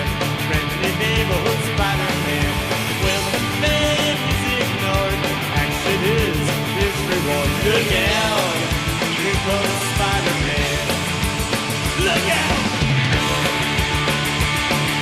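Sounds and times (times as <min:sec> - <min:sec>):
fast punk rock music: 0:00.0 - 0:15.0.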